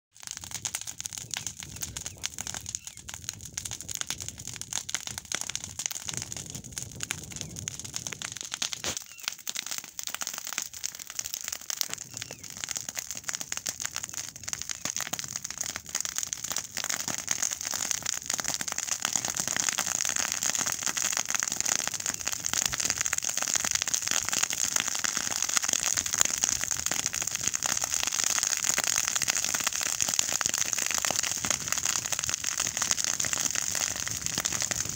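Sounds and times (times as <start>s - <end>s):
grass burning with crackling: 0.1s - 34.9s.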